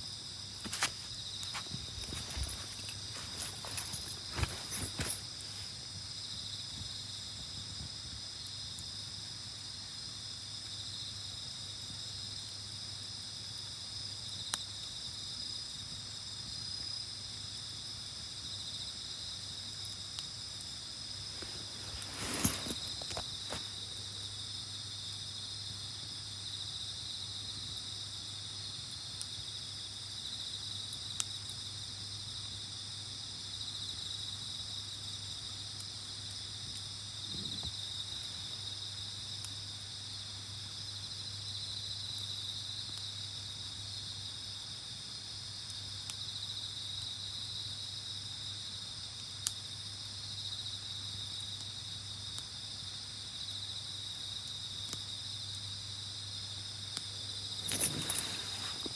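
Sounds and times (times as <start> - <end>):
night insects chirping: 0.0 - 58.9.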